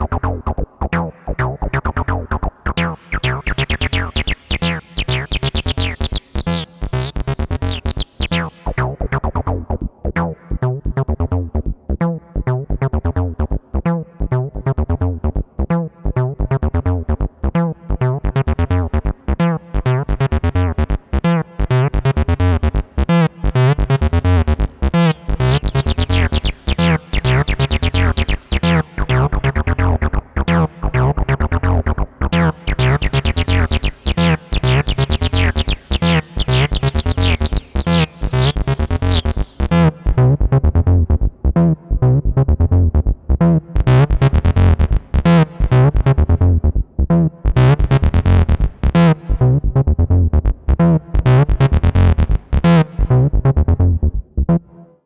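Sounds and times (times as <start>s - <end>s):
acid bass synth sequence: 0.0s - 54.7s.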